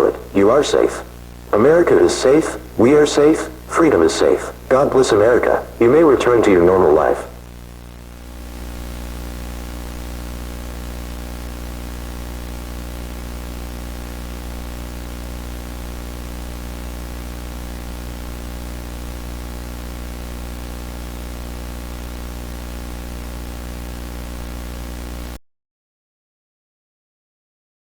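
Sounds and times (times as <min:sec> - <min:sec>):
low buzzing hum: 0:00.0 - 0:25.4
static hiss: 0:00.0 - 0:25.4.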